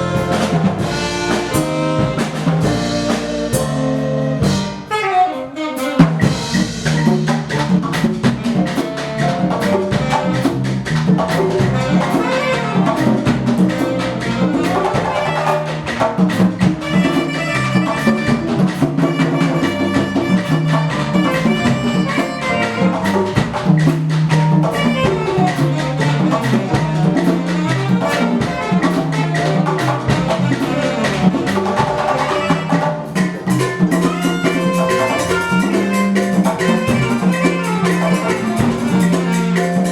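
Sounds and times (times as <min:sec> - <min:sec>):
hand drums and percussion: 0:00.0 - 0:05.0, 0:05.9 - 0:39.9
horn-like melody: 0:00.0 - 0:07.7, 0:11.6 - 0:16.0, 0:16.7 - 0:23.6, 0:24.7 - 0:33.2, 0:33.8 - 0:39.9.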